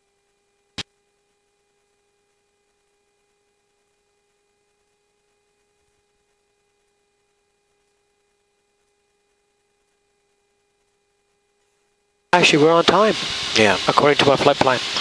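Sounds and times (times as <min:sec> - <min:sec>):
faint electrical hum with hiss: 0:00.0 - 0:15.0.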